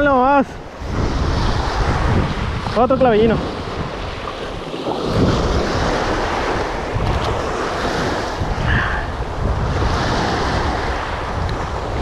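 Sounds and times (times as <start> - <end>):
small waves on rocky shore: 0.0 - 12.0
wind buffeting microphone: 0.0 - 12.0.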